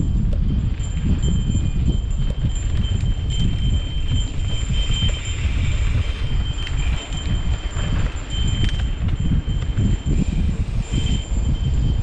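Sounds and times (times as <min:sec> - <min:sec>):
bike rattling over trail: 0:00.0 - 0:12.0
high metallic ringing buzz: 0:00.0 - 0:12.0
wind on microphone: 0:00.0 - 0:12.0.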